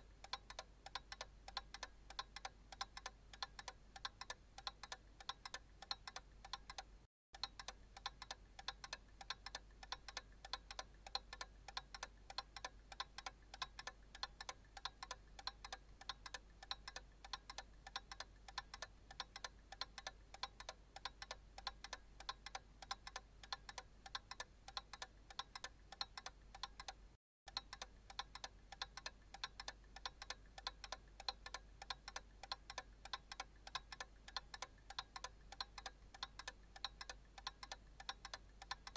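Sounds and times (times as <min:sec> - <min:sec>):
analog clock ticking: 0:00.0 - 0:38.9.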